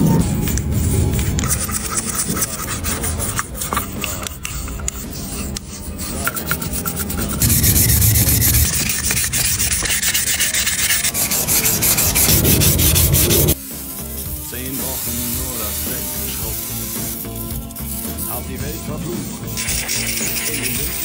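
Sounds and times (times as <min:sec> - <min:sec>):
abrasive hand sanding: 0:00.0 - 0:21.0.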